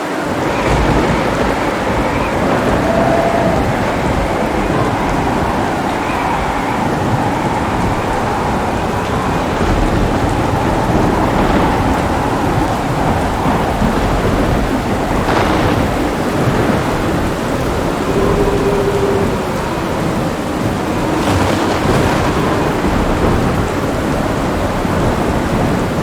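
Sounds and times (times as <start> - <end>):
heavy rain: 0.0 - 26.0
thunder rumbling: 0.0 - 26.0.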